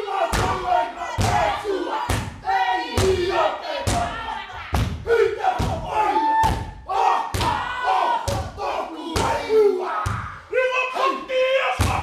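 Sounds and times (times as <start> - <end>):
group chanting and shouting: 0.0 - 12.0.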